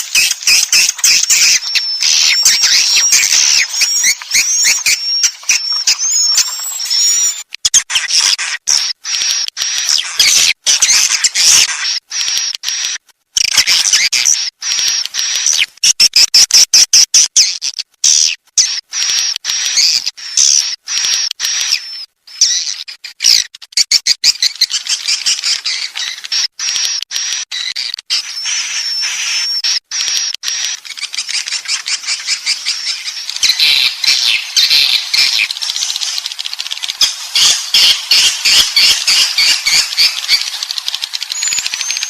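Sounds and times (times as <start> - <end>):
swiftlets twittering: 0.0 - 16.2, 24.3 - 42.0.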